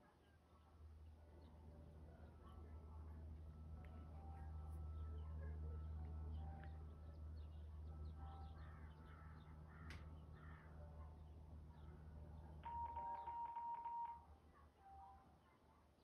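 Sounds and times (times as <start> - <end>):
low steady hum: 0.0 - 15.4.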